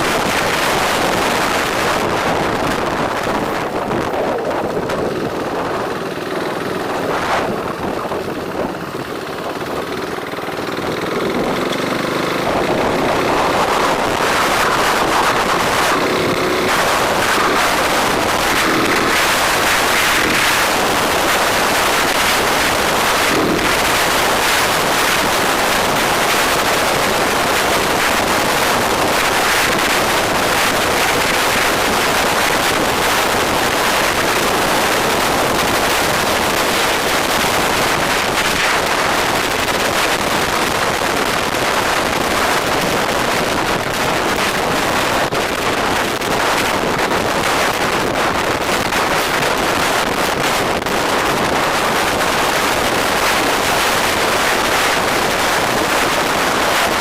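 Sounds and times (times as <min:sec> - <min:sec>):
road and traffic noise: 0:00.0 - 0:57.0
wind rushing over microphone: 0:00.0 - 0:57.0.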